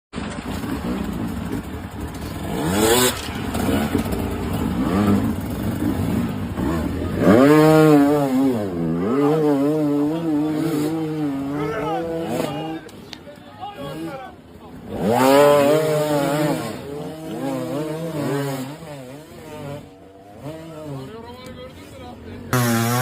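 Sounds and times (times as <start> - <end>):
dirt bike engine revving: 0.2 - 13.0, 13.7 - 23.0.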